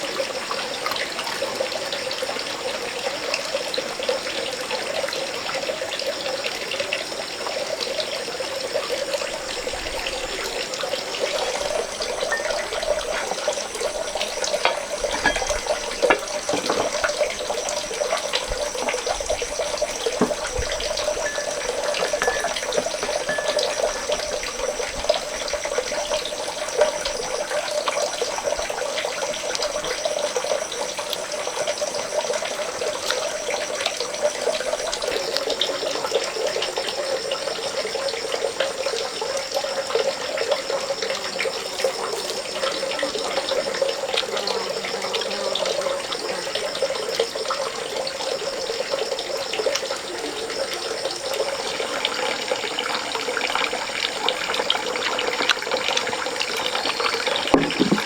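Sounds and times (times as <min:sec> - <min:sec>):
running water pouring: 0:00.0 - 0:58.0.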